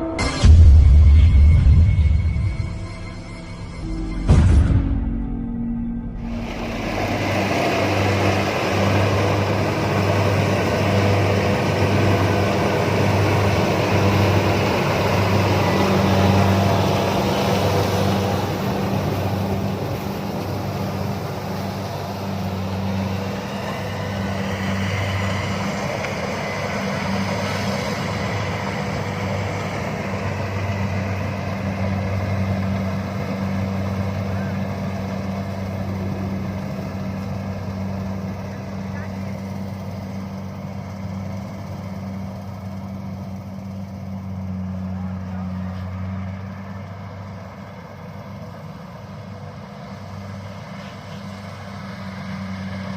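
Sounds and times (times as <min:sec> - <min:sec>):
combine harvester engine drone: 0:00.0 - 0:52.9
harvester machinery noise: 0:00.0 - 0:52.9.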